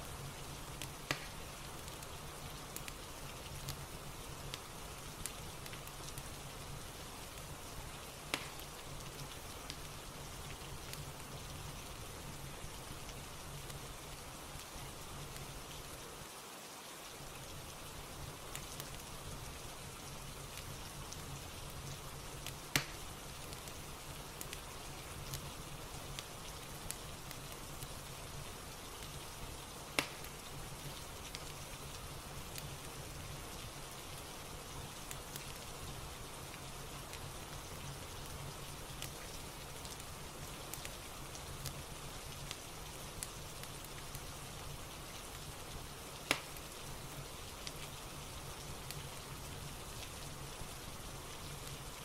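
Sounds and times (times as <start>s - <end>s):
fire crackling: 0.0s - 16.3s, 17.0s - 52.0s
steady rain: 0.0s - 52.0s.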